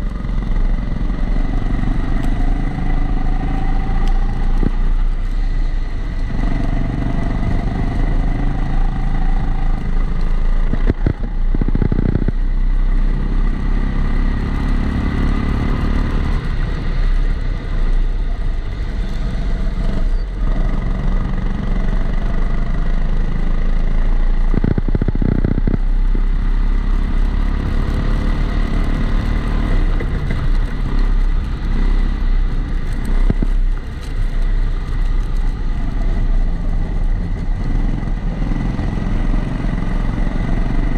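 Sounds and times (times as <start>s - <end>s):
muffled kart engine: 0.0s - 40.9s.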